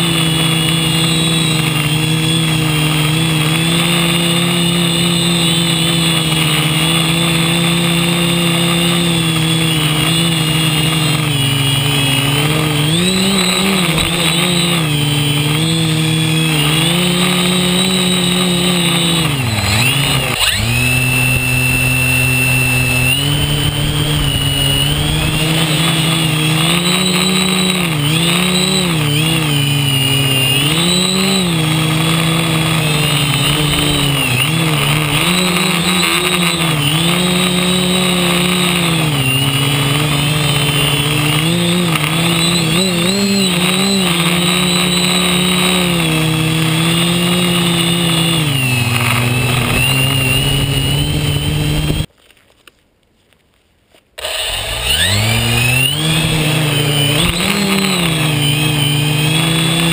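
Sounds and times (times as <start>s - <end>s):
drone propellers buzzing: 0.0s - 52.1s, 54.2s - 59.9s.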